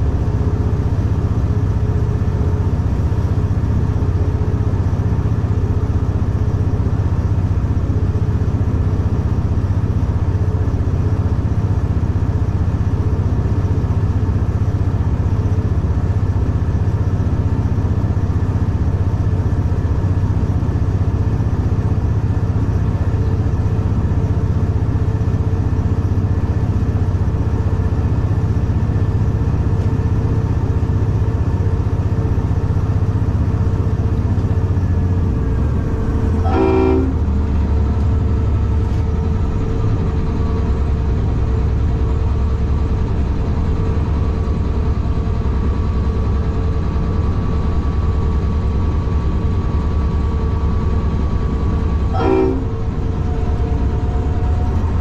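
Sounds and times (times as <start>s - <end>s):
diesel engine low drone: 0.0s - 55.0s.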